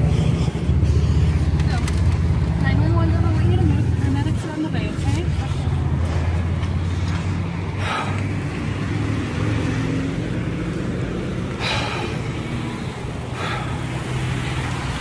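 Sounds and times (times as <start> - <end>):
low engine hum of traffic: 0.0 - 15.0
vehicles swishing past: 0.0 - 15.0.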